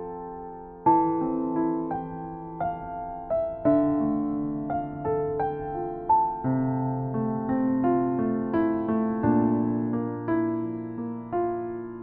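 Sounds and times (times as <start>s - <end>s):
piano chords and notes: 0.0s - 12.0s.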